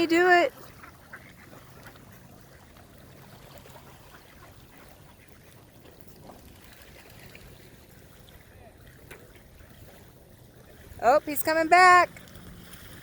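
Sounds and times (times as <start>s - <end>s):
gentle water sounds: 0.0s - 13.0s.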